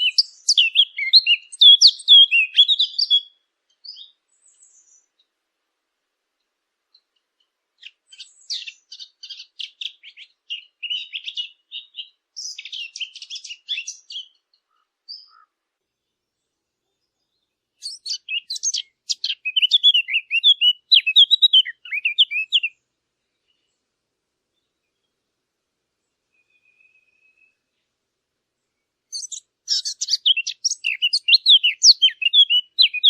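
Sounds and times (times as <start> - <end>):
songbird twittering: 0.0 - 5.3, 6.9 - 15.5, 16.4 - 23.8, 26.3 - 27.8, 29.1 - 33.0.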